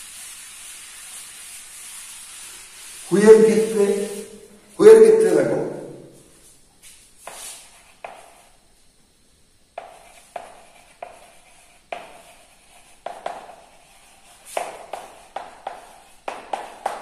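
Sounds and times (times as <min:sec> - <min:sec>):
chalk tapping and scratching on blackboard: 0:00.0 - 0:04.5, 0:06.2 - 0:08.7, 0:09.8 - 0:17.0.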